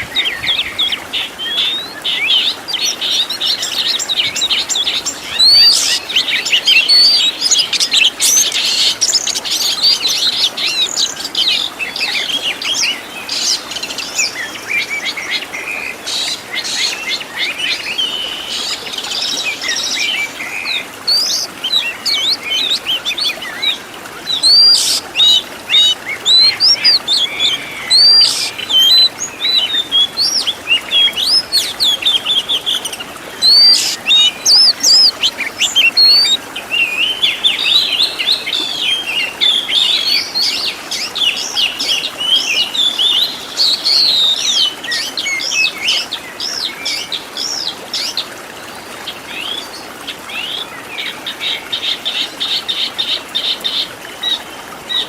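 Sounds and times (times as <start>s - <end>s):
bird singing: 0.0s - 48.1s.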